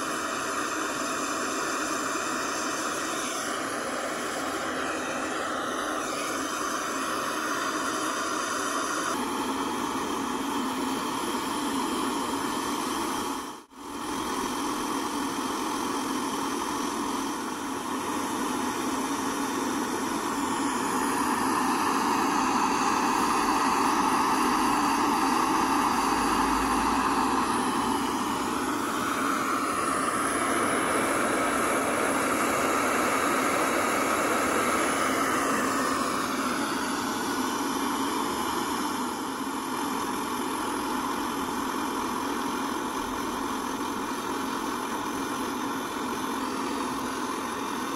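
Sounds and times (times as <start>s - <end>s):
gas stove burner hissing: 0.0s - 47.9s.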